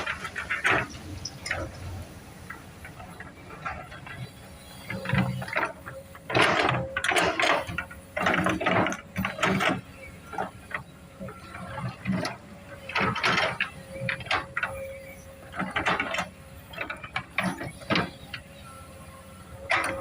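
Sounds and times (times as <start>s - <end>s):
excavator scraping and clanking: 0.0s - 20.0s.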